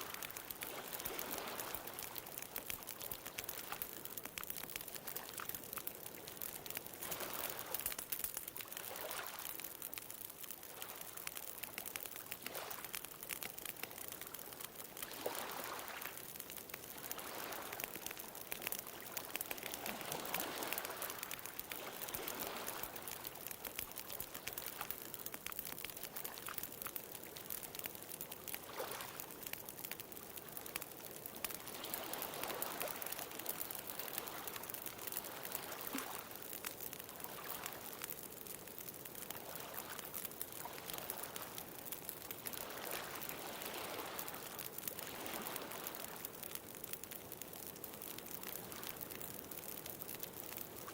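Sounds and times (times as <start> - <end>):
bonfire crackling: 0.0 - 50.9.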